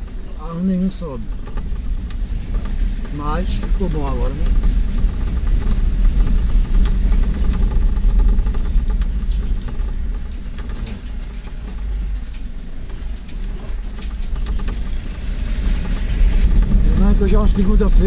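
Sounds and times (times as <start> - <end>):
road noise: 0.0 - 18.0
small rattles: 0.0 - 18.0
vehicle engine rumble: 0.0 - 18.0.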